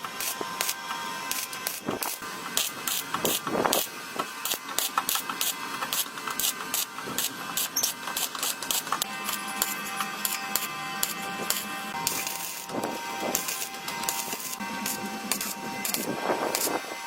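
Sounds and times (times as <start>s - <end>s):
hand tool scraping strokes: 0.0s - 17.0s.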